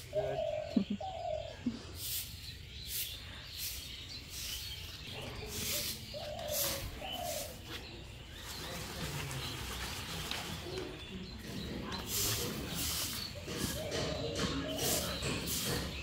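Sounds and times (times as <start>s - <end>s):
doves cooing: 0.0s - 2.0s, 5.0s - 16.0s.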